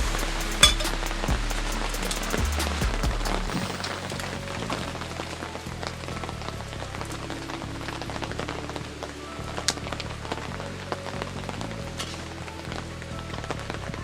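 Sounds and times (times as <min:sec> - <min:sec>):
quiet background music: 0:00.0 - 0:14.0.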